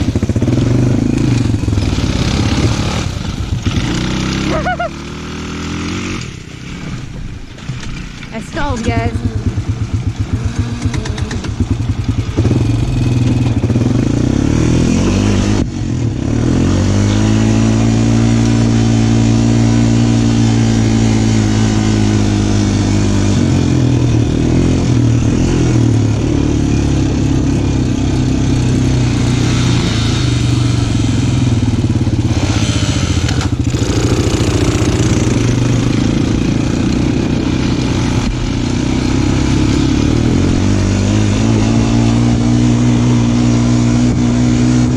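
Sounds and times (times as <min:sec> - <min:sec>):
small engine revving: 0:00.0 - 0:44.9.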